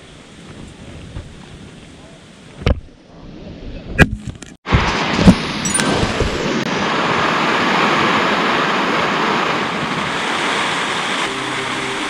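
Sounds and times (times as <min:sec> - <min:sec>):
strong wind buffeting a tent: 0:00.0 - 0:04.0, 0:04.7 - 0:12.0.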